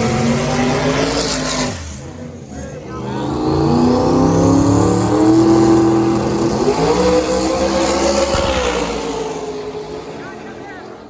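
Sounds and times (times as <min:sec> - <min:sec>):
racing car engine accelerating: 0:00.0 - 0:11.0.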